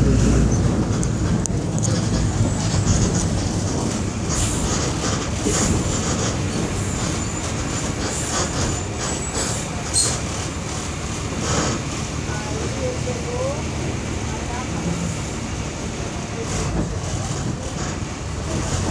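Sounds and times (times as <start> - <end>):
bus body rattling and clicking: 0.0 - 18.9
bus engine and road rumble: 0.0 - 18.9.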